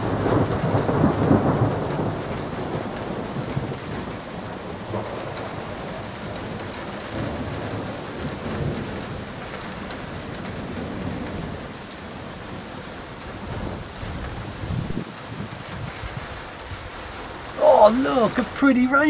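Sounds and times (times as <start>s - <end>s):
heavy rain falling: 0.0s - 19.0s
thunder rumbling: 0.0s - 19.0s.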